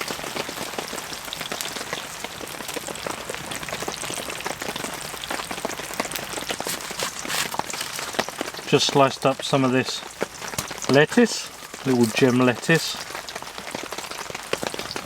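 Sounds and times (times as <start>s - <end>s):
heavy rain on tent fabric: 0.0s - 15.0s.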